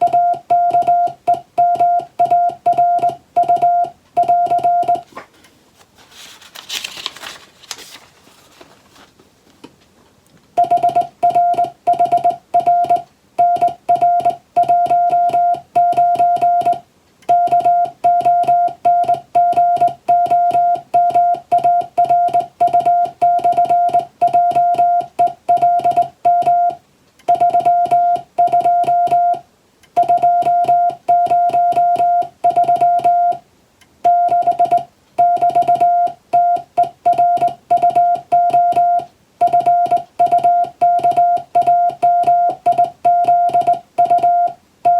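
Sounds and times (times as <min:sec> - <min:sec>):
morse code beeps: 0:00.0 - 0:05.1, 0:10.6 - 0:33.4, 0:34.0 - 0:44.9.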